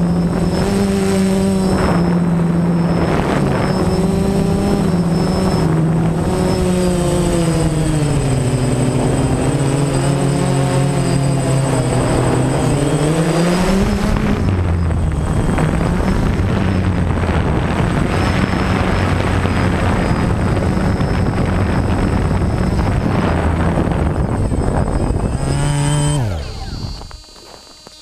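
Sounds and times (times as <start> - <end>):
drone propellers buzzing: 0.0 - 28.0
thin high whine: 0.0 - 28.0.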